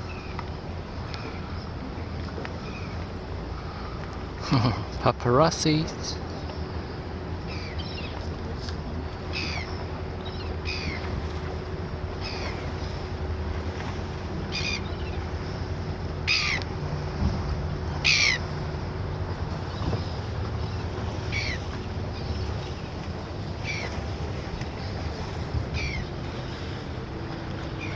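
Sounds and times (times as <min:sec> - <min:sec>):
steady low rumble: 0:00.0 - 0:27.9
bird calling: 0:02.6 - 0:27.9.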